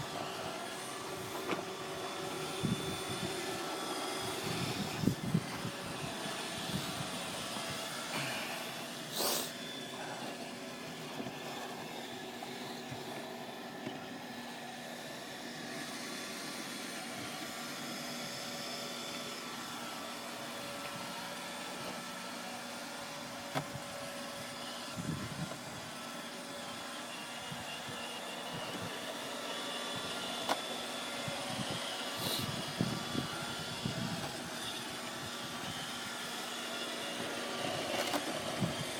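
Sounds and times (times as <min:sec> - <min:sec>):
robot vacuum humming and whining: 0:00.0 - 0:38.9.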